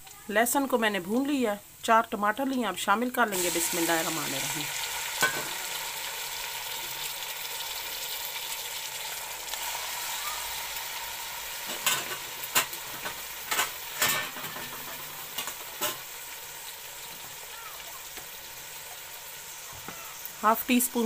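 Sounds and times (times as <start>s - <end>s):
tomatoes sizzling in hot oil: 0.0s - 21.0s.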